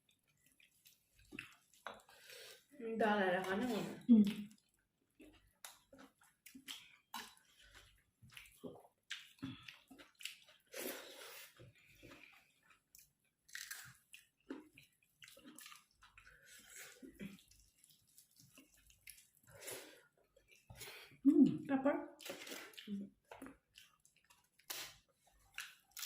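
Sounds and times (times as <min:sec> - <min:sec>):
wet chewing and mouth sounds: 0:00.0 - 0:02.7, 0:03.4 - 0:26.0.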